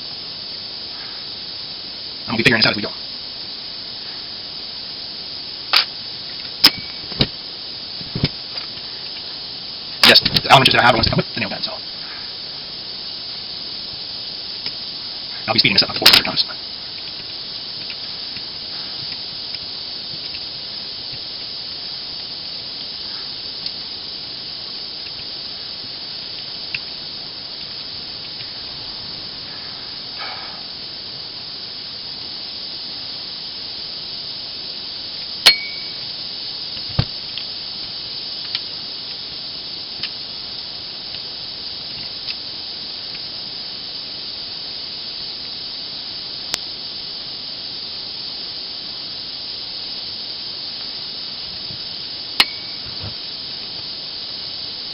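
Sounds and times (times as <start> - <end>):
steady high hiss: 0.0 - 54.9.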